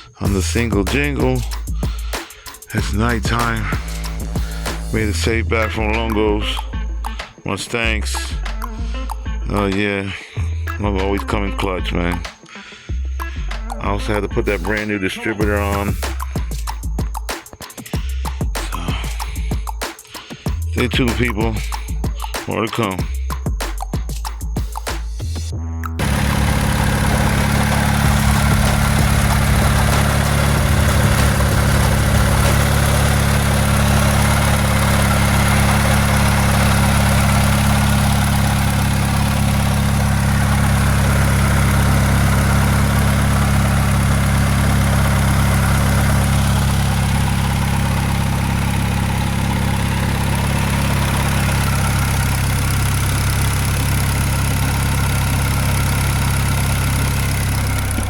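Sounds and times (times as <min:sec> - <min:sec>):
car engine idling: 0:00.0 - 0:08.7, 0:13.0 - 0:17.3, 0:18.0 - 0:19.7, 0:26.0 - 0:58.0.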